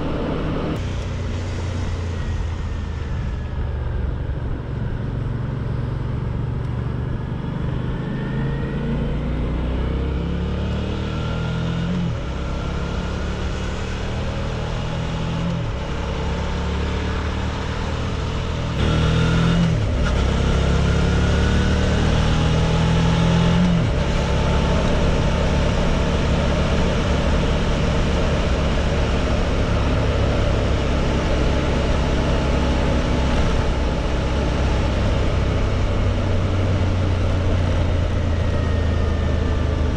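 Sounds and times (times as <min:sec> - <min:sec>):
rush of noise: 0:00.0 - 0:06.6, 0:12.1 - 0:39.9
motorcycle engine accelerating: 0:00.0 - 0:39.9.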